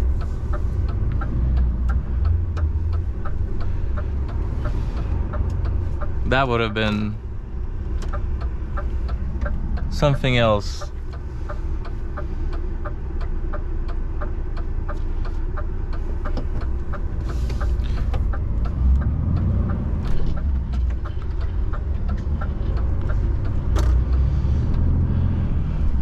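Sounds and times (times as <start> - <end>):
diesel truck engine rumbling: 0.0 - 26.0
light regular ticking: 0.0 - 26.0.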